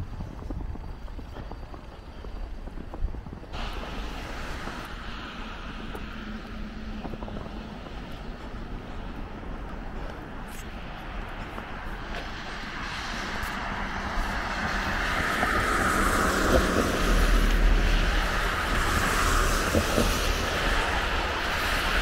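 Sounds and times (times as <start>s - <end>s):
passing traffic road noise: 0.0s - 22.0s.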